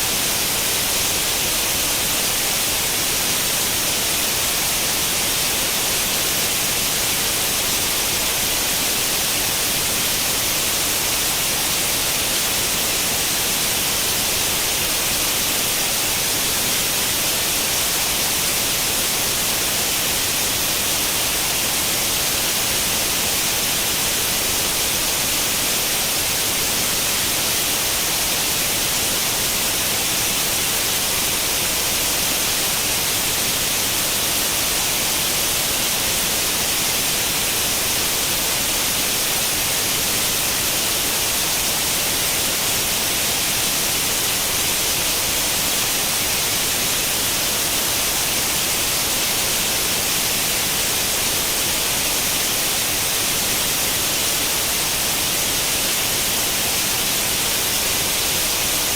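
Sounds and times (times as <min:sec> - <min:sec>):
static hiss: 0:00.0 - 0:58.9.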